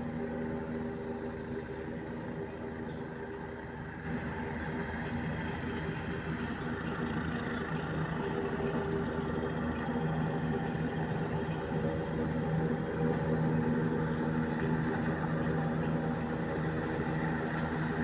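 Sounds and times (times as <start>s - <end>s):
helicopter hovering: 0.0s - 18.0s.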